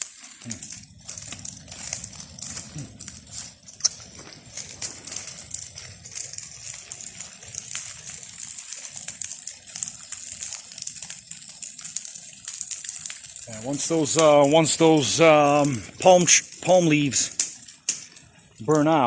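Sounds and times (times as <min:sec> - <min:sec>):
fire crackling and hissing: 0:00.0 - 0:19.0.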